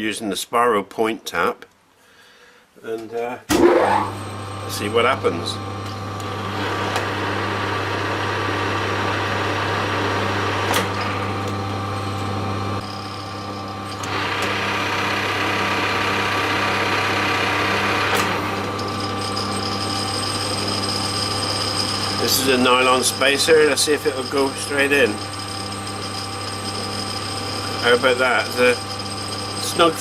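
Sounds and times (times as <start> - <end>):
power drill motor running: 3.6 - 30.0.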